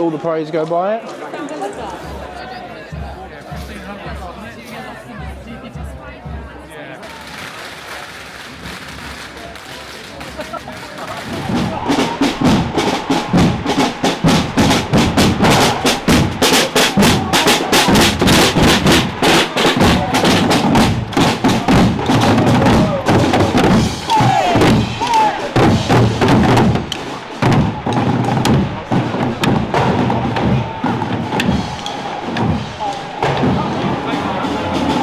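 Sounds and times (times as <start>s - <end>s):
crowd voices: 0.0s - 35.0s
procession drums beating: 2.0s - 35.0s.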